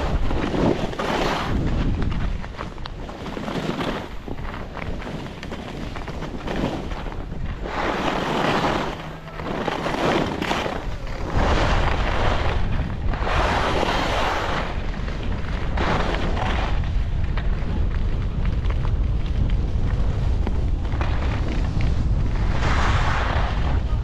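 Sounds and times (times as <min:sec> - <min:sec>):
skis scraping on snow: 0:00.0 - 0:24.0
wind buffeting microphone: 0:00.0 - 0:24.0.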